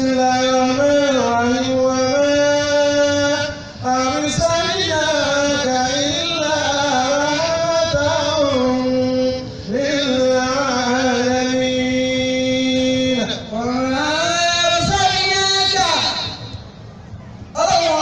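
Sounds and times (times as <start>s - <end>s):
man chanting into microphone: 0.0s - 16.6s, 17.6s - 18.0s.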